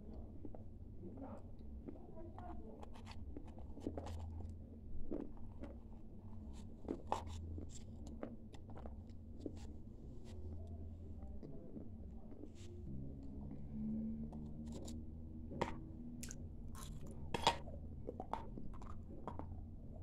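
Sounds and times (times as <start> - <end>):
person crunching and chewing clay: 0.0 - 12.8, 14.3 - 20.0.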